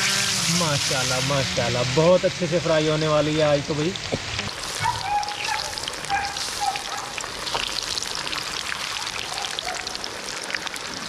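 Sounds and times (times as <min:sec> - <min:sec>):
fish deep-frying in hot oil: 0:00.0 - 0:11.0.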